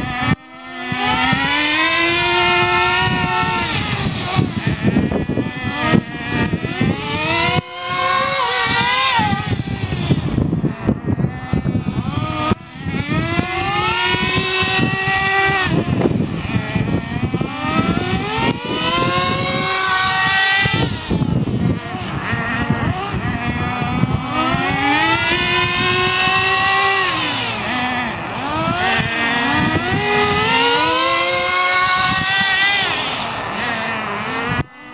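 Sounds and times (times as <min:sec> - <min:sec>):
rc car engines revving: 0:00.0 - 0:34.9.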